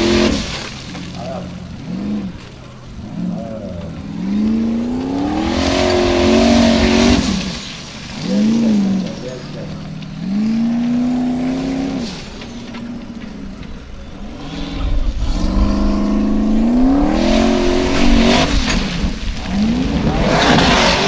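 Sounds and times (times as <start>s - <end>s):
buggy engine revving hard: 0.0s - 21.0s.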